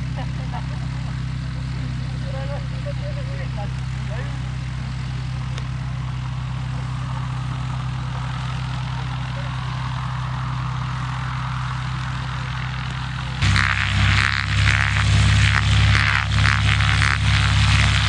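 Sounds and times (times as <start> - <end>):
propeller aircraft engine drone: 0.0 - 18.0.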